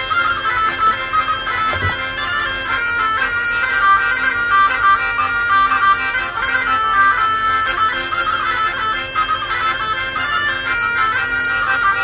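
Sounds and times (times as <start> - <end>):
bagpipe melody over drone: 0.0 - 12.0.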